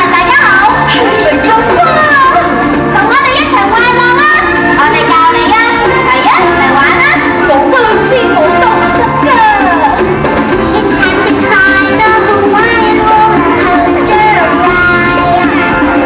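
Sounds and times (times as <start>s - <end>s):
loud music with singing: 0.0s - 16.0s.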